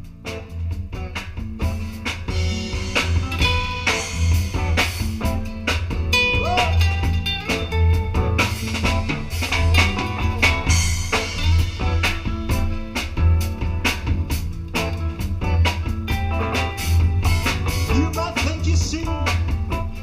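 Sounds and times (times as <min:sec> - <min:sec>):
bass guitar: 0:00.0 - 0:20.0
drum kit beat: 0:00.0 - 0:20.0
electric guitar: 0:00.0 - 0:20.0.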